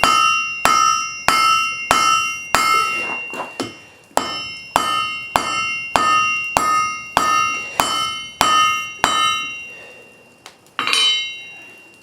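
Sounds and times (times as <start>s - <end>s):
hammer striking iron on anvil: 0.0s - 9.7s, 10.8s - 11.5s
light metallic clang: 0.0s - 10.0s, 10.8s - 11.9s.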